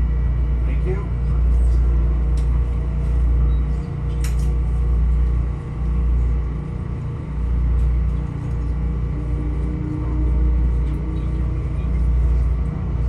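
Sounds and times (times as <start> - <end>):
train rumble inside car: 0.0 - 13.0.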